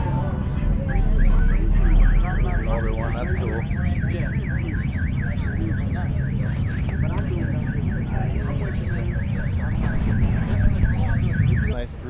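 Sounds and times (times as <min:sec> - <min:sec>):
electronic alarm warbling: 0:00.0 - 0:11.9
steady low rumble: 0:00.0 - 0:12.0.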